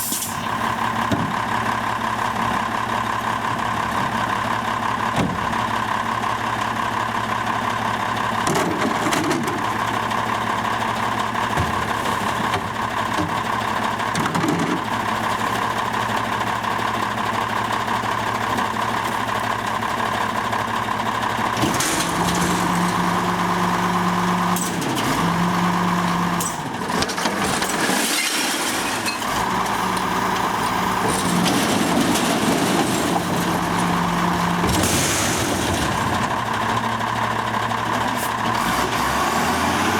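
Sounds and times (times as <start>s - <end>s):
truck engine running: 0.3s - 27.9s, 28.6s - 39.9s.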